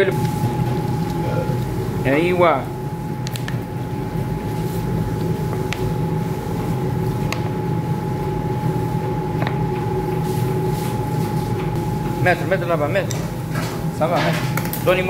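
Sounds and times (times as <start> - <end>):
machine hum with whining tone: 0.0 - 15.0.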